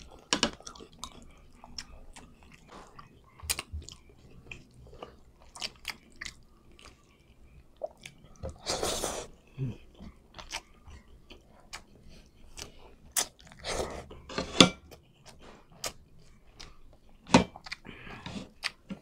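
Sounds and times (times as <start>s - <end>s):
man chewing food: 0.0s - 19.0s.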